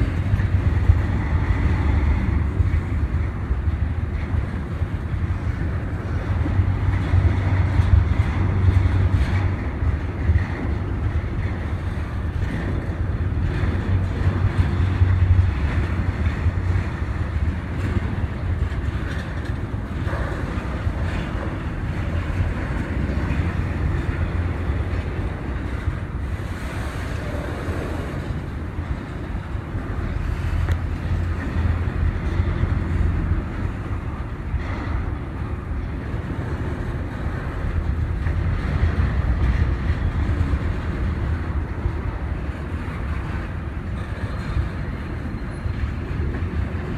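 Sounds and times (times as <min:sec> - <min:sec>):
train passing rumble: 0:00.0 - 0:46.9.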